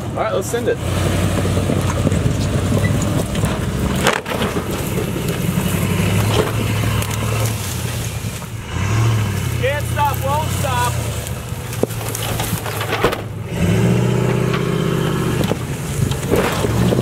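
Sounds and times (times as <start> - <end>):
vehicle engine running: 0.0 - 17.0
branches crackling and snapping: 0.9 - 17.0.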